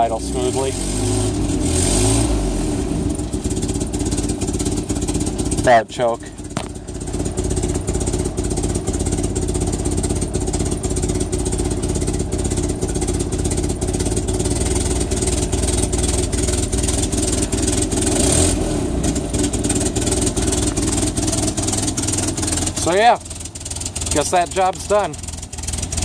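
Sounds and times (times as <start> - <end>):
exhaust leak: 2.4 - 26.0
petrol engine idling: 3.0 - 26.0.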